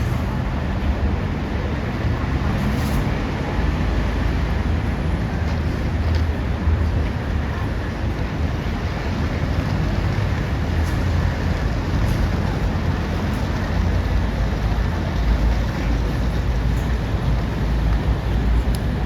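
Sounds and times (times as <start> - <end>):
train rumbling along track: 0.0 - 19.0.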